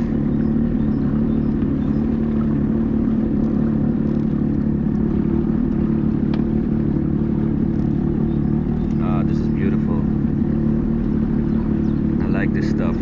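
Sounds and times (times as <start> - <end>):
watercraft engine droning: 0.0 - 13.0.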